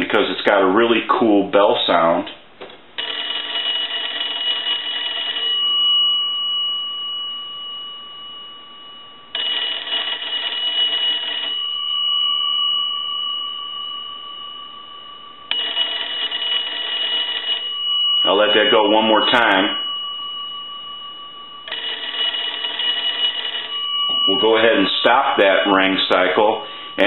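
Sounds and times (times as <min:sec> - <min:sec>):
telephone bell gongs ringing: 0:03.0 - 0:27.0.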